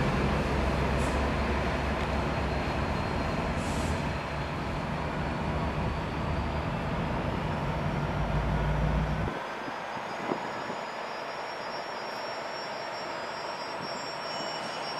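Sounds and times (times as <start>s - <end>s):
diesel locomotive engine drone: 0.0s - 14.9s.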